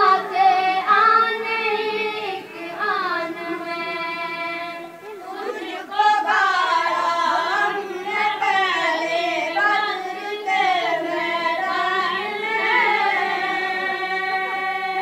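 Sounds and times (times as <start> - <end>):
boys singing unaccompanied: 0.0 - 15.0.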